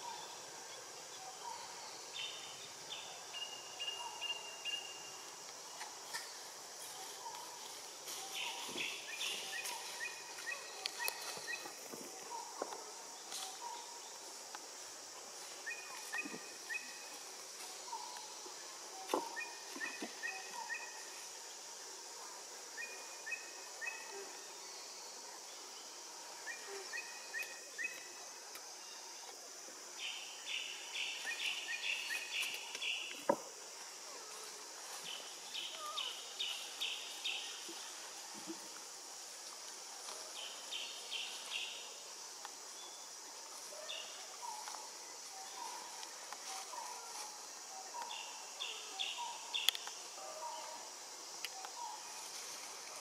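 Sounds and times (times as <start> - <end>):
high insect drone: 0.0 - 53.0.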